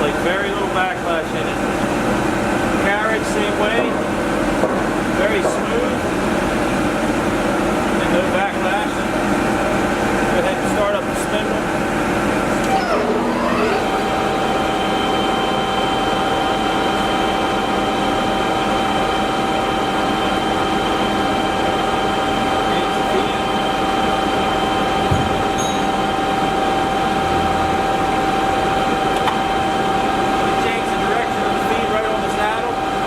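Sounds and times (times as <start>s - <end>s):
lathe gear whine: 0.0s - 33.0s
lathe mechanical noise: 0.0s - 33.0s.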